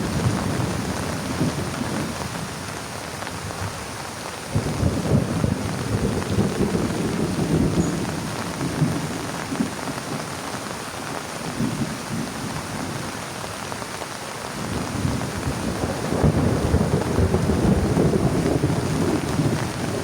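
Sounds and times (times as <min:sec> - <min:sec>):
heavy rain drumming on a tarp: 0:00.0 - 0:20.0.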